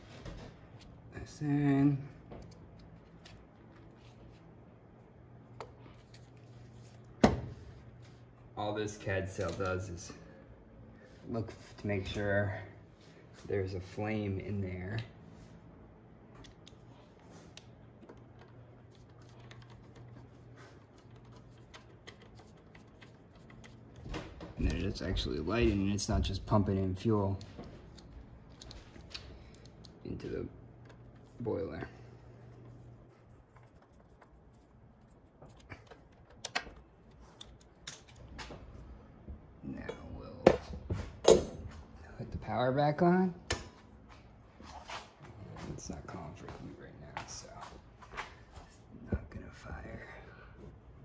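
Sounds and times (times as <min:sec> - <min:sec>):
faint low hum: 0:00.0 - 0:51.0.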